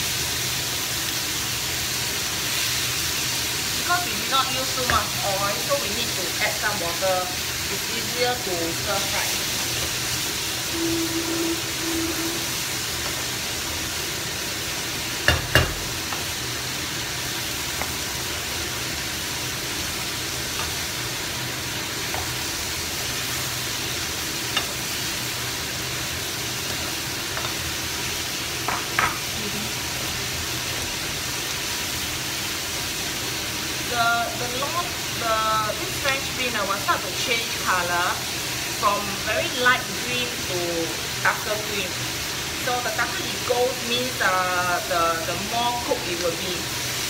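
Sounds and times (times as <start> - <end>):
food sizzling in a wok: 0.0 - 47.0.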